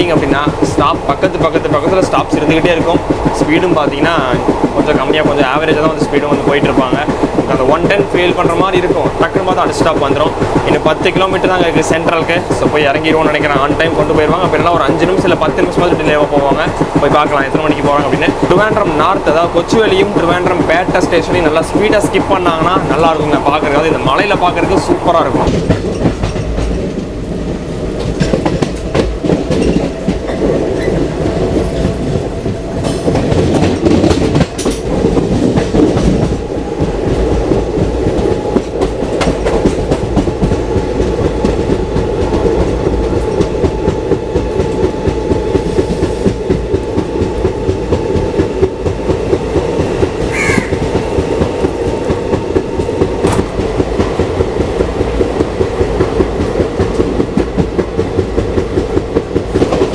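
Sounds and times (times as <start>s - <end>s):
train rumbling: 0.0s - 59.9s
wheels clacking over rail joints: 0.0s - 59.9s.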